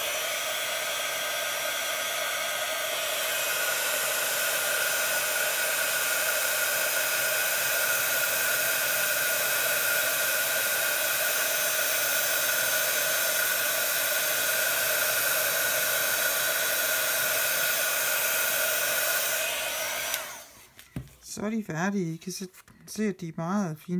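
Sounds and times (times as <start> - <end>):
heat gun running: 0.0 - 20.8.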